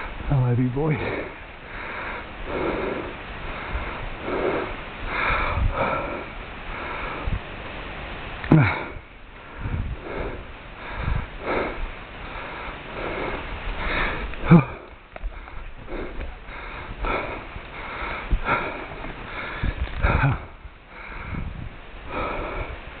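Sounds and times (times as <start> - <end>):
heavy nasal breathing and sniffing: 0.0 - 7.5, 8.5 - 23.0
throaty exhales: 1.0 - 7.4, 8.5 - 22.9.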